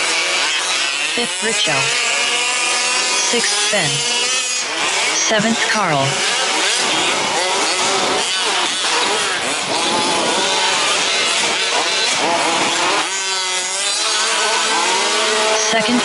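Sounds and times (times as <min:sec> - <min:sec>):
small engines buzzing and revving: 0:00.0 - 0:16.0.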